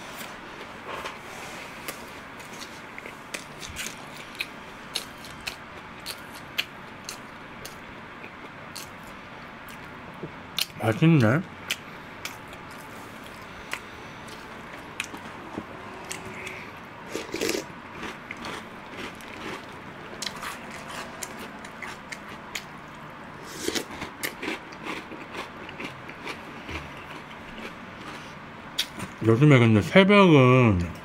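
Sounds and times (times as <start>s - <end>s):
chewing with crunches: 0.6s - 10.8s, 11.6s - 29.2s.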